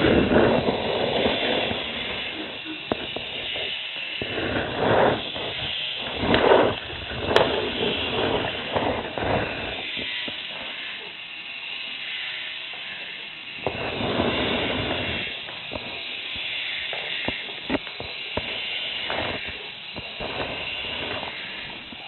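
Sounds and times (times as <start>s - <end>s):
whirring toy motor: 0.0s - 22.0s.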